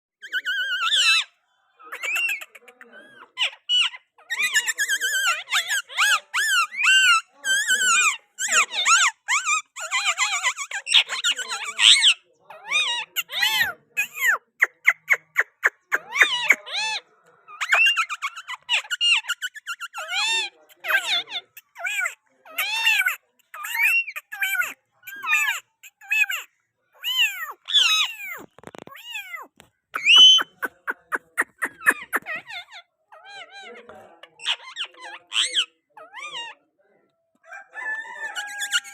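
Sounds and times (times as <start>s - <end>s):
parakeet calling: 0.2s - 36.6s.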